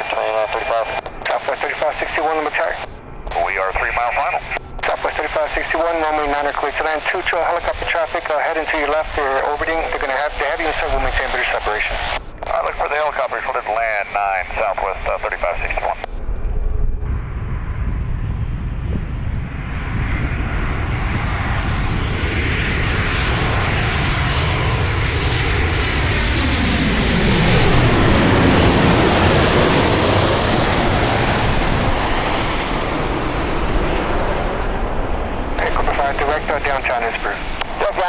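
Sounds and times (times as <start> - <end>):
jet airliner passing close by: 0.0 - 38.0.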